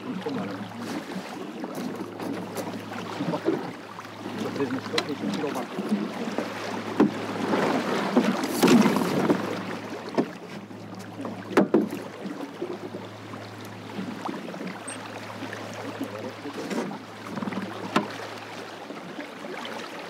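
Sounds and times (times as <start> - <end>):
boat knocks: 0.0 - 18.5
water splashing along hull: 0.0 - 20.0.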